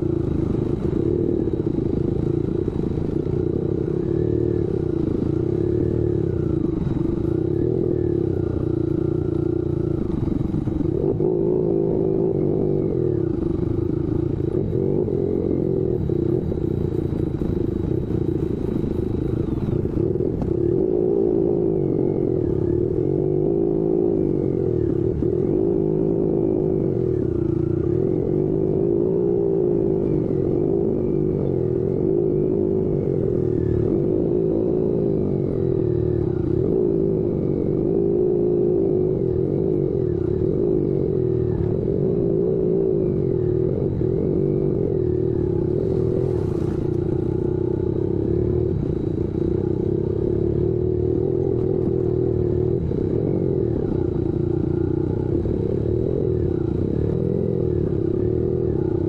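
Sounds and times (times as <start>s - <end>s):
motorcycle engine running: 0.0s - 59.0s
road noise: 0.0s - 59.0s
wind: 0.0s - 59.0s.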